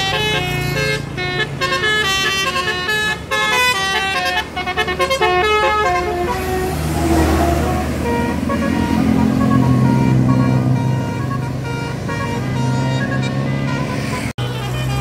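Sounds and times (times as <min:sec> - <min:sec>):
bus engine drone: 0:00.0 - 0:15.0
bus musical horn: 0:00.0 - 0:15.0.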